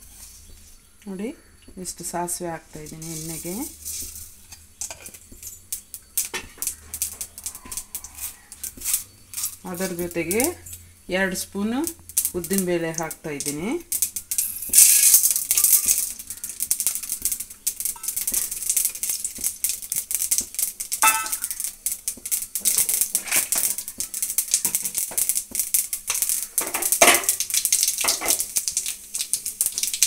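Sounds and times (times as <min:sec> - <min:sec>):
seeds frying in hot oil: 0:00.0 - 0:30.0.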